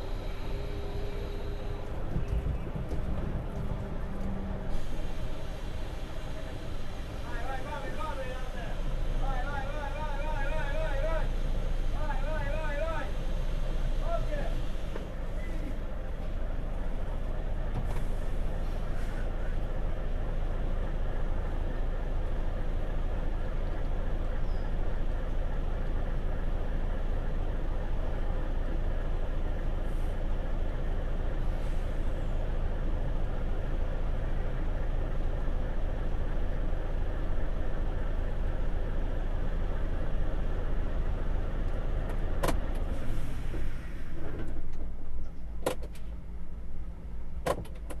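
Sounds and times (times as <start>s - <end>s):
low engine rumble: 0.0s - 48.0s.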